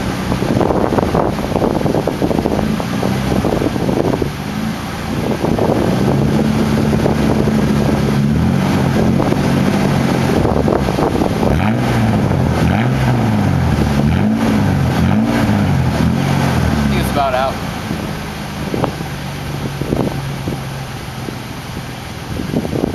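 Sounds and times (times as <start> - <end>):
engine revving: 0.0 - 22.9
truck engine running at raised revs: 0.0 - 22.9.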